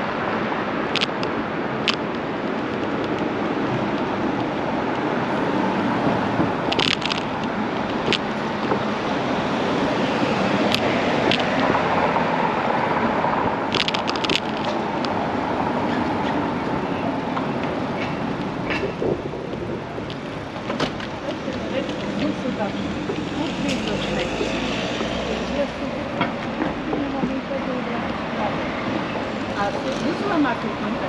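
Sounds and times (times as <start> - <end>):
wind noise on microphone: 0.0 - 27.5
passing traffic: 0.0 - 31.0.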